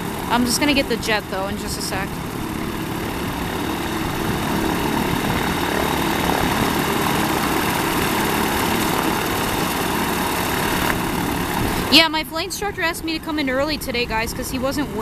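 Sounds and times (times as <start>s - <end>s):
propeller airplane engine droning: 0.0s - 15.0s.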